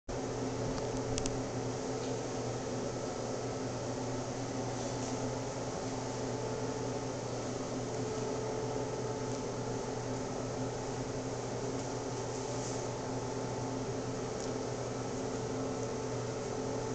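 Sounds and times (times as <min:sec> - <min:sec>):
steady machine hum with hiss: 0:00.1 - 0:16.9.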